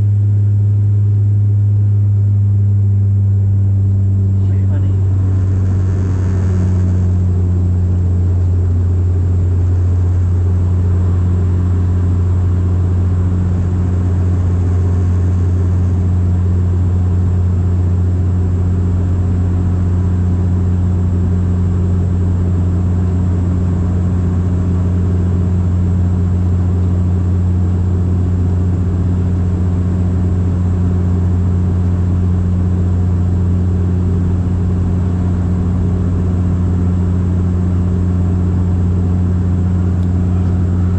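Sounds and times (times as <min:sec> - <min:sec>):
engine and airflow rumble: 0:00.0 - 0:40.9
propeller drone in cabin: 0:00.0 - 0:40.9.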